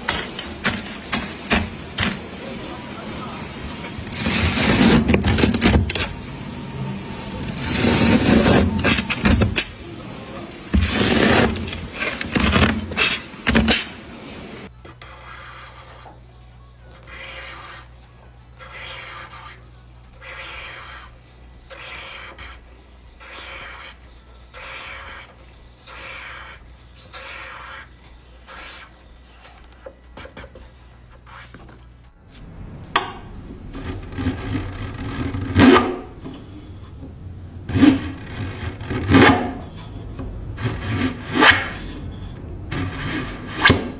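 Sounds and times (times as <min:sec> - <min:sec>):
low steady hum: 0:00.0 - 0:43.9.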